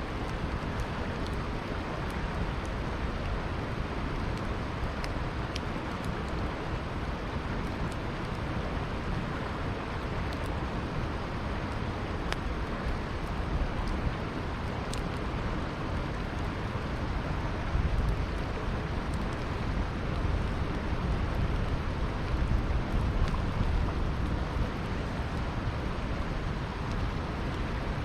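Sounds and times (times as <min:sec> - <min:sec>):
river flowing: 0:00.0 - 0:28.0
campfire crackling: 0:00.1 - 0:28.0.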